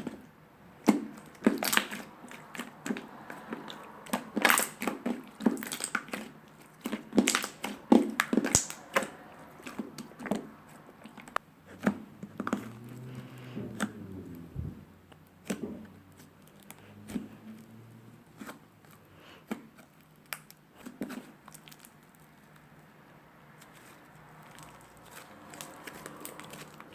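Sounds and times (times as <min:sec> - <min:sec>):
slime squished by hand: 0:00.0 - 0:22.8, 0:23.5 - 0:26.9.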